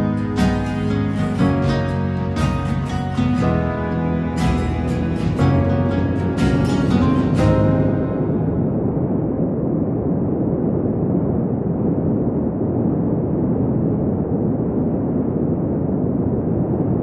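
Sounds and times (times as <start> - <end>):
muffled rumbling noise: 0.0 - 17.0.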